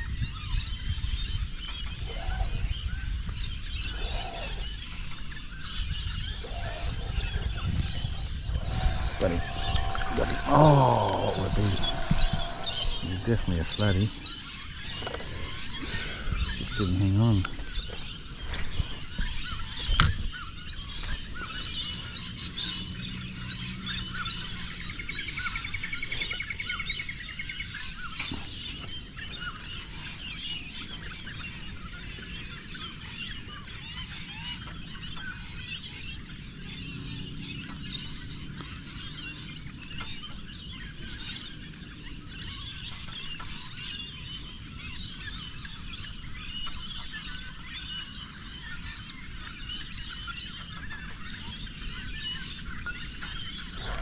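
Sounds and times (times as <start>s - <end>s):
birds chirping: 0.0s - 54.0s
bird trill: 1.1s - 54.0s.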